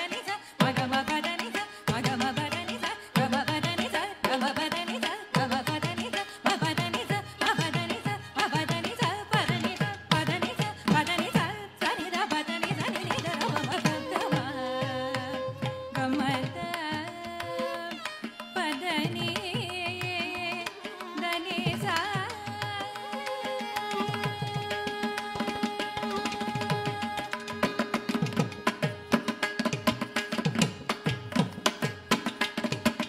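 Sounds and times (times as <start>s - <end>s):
woman singing ornamented vocals: 0.0s - 27.5s
violin: 0.0s - 33.0s.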